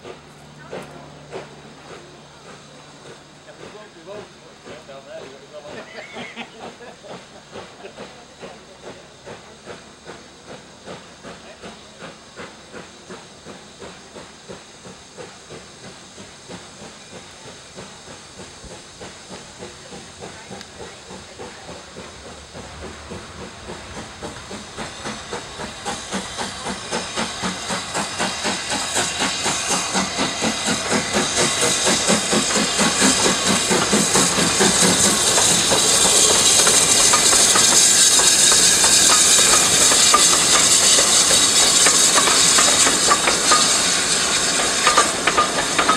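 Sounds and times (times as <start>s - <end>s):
steam locomotive exhaust beats: 0.0s - 45.9s.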